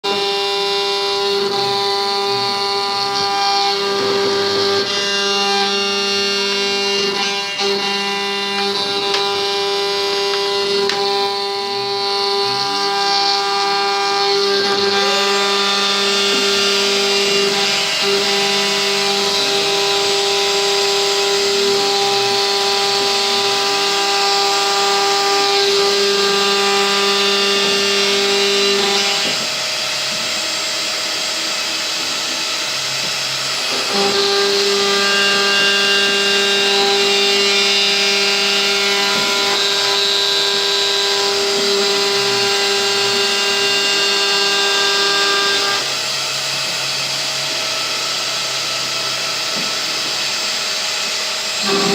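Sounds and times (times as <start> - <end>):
router spindle cutting wood: 0.0 - 51.9.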